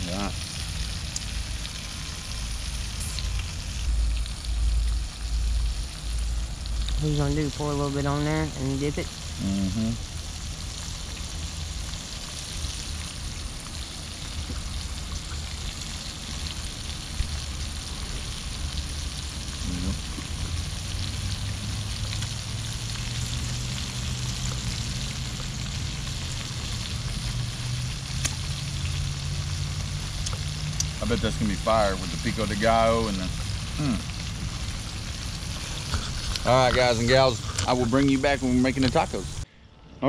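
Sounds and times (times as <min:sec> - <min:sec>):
fish frying in oil: 0:00.0 - 0:39.4
low hum of gas stove: 0:00.0 - 0:39.6.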